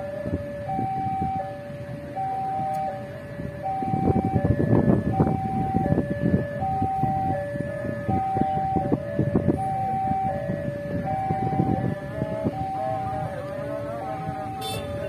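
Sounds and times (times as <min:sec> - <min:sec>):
level crossing two-tone alarm: 0:00.0 - 0:13.4
road traffic rumble: 0:00.0 - 0:15.0.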